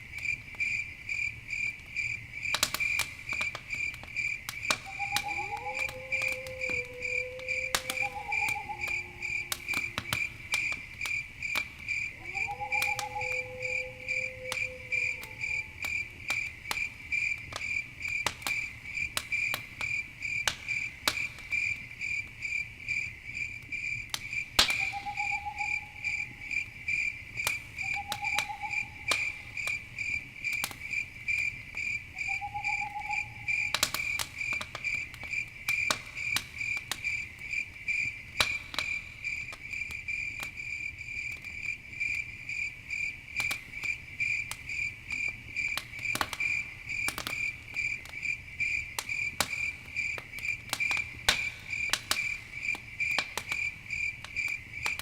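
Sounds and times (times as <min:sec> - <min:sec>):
campfire crackling and popping: 0:00.0 - 0:55.0
crickets chirping: 0:00.0 - 0:55.0.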